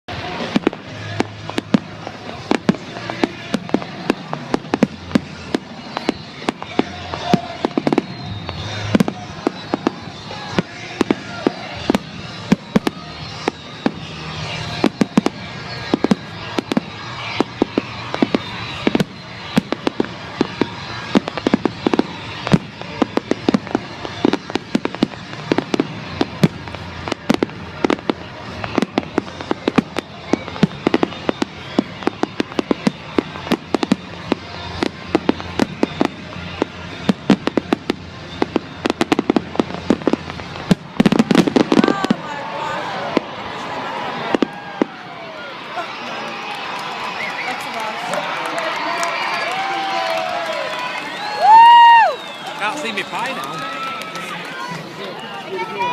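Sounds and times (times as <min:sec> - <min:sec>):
fireworks bangs and crackles: 0:00.1 - 0:55.9.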